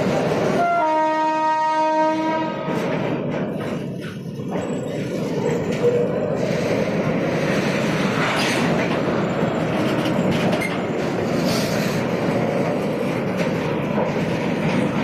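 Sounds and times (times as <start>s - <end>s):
train wheels rolling on rails: 0.0s - 15.0s
wheels clicking over rail joints: 2.6s - 15.0s.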